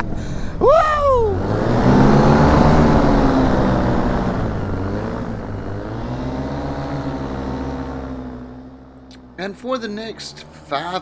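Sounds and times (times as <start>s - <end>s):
paramotor engine and propeller: 0.0s - 11.0s.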